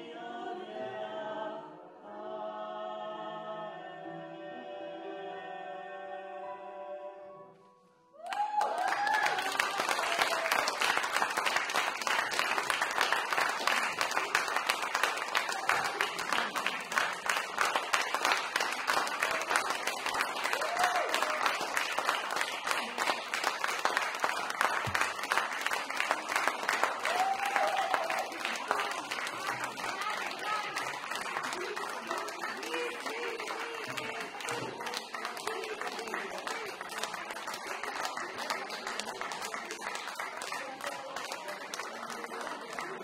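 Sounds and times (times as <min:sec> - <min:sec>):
audience applause: 0:08.2 - 0:43.0.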